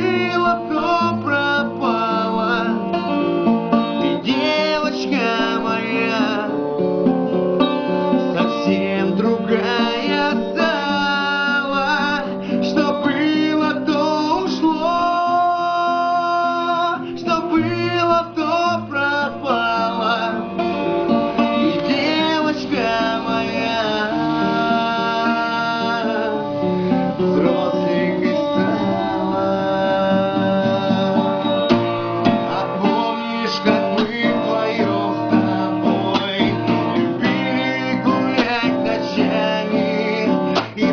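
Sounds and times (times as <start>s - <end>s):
man singing: 0.0s - 3.2s, 4.0s - 6.8s, 8.1s - 40.9s
strummed acoustic guitar: 0.0s - 40.9s.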